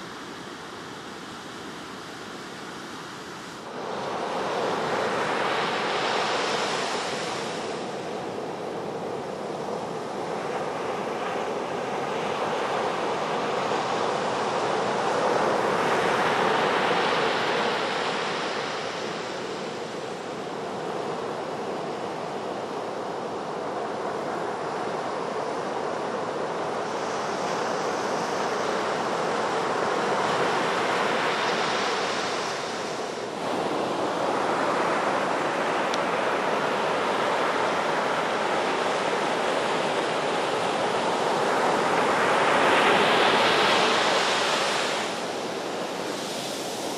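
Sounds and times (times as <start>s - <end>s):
ocean surf breaking on beach: 0.0s - 46.9s.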